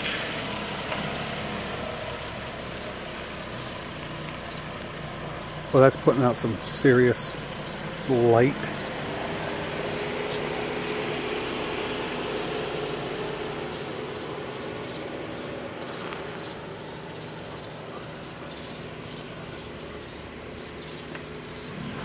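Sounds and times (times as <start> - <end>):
car engine humming: 0.0 - 22.0
crickets chirping: 0.0 - 22.0.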